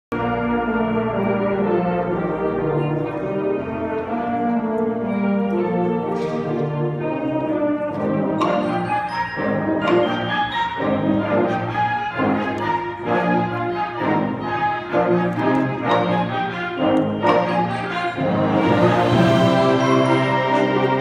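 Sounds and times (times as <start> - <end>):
concert band playing: 0.1 - 21.0.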